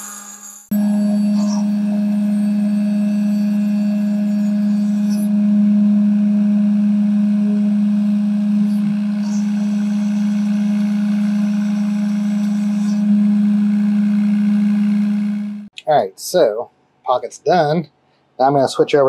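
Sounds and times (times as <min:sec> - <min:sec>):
cnc router spindle humming: 0:00.0 - 0:15.7.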